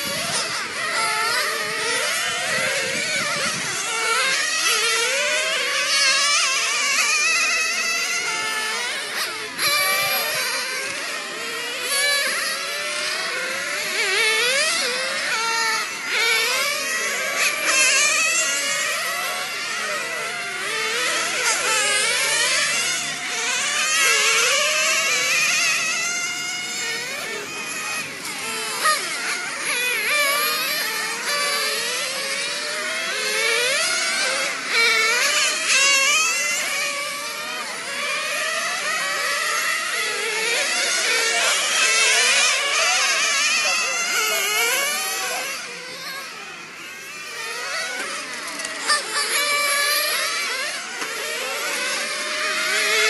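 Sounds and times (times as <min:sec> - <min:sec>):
small model car engines whining: 0:00.0 - 0:53.0.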